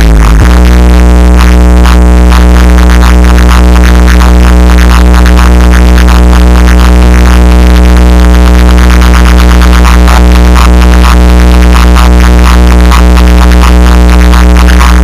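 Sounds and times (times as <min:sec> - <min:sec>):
loud electronic music with heavy bass: 0:00.0 - 0:15.0.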